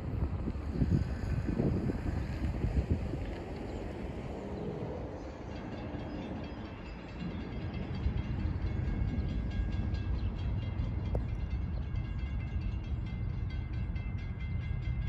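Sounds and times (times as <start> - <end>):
distant train rumble: 0.0 - 15.0.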